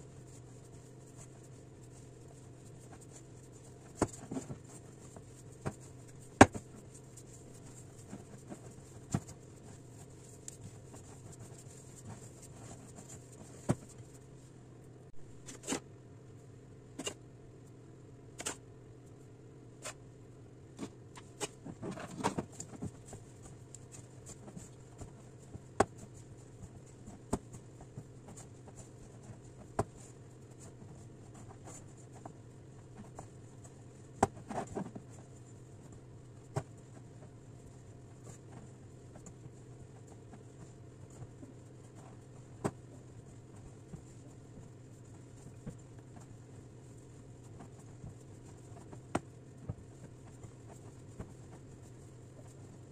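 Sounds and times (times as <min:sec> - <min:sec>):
hands kneading dough: 0:00.0 - 0:15.8, 0:20.7 - 0:52.9
faint steady hum: 0:00.0 - 0:52.9.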